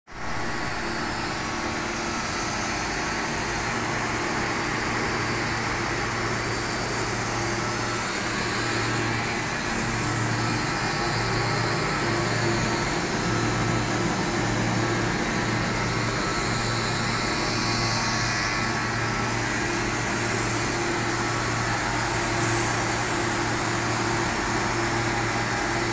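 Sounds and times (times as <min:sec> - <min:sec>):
pressure washer motor hum: 0:00.2 - 0:25.9.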